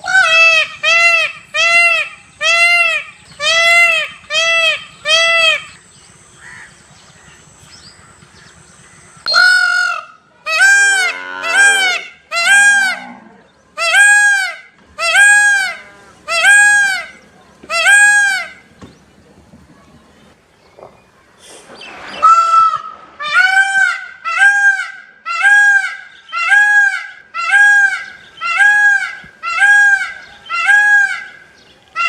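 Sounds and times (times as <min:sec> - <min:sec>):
lower-pitched bird call: 0:00.0 - 0:32.0
peacock wailing calls: 0:00.0 - 0:32.0.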